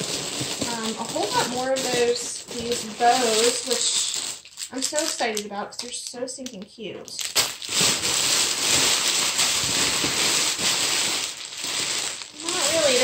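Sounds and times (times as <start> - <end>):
hands rummaging through cardboard box: 0.0 - 5.4, 7.2 - 13.0
plastic bags crinkling: 0.0 - 13.0.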